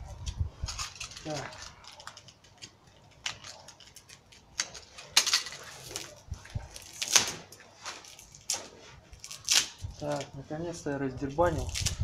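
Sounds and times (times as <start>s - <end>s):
packaging tape ripping: 0.2s - 10.4s, 11.4s - 12.0s.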